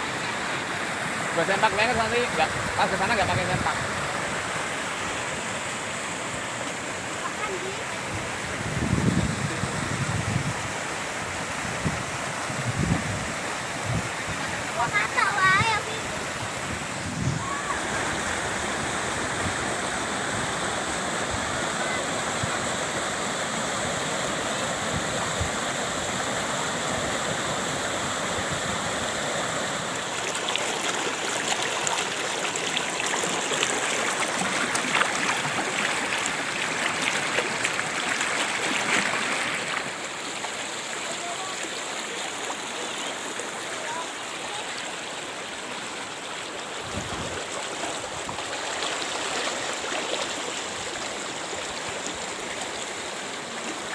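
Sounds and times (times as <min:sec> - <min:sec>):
waterfall rushing and splashing: 0:00.0 - 0:53.9.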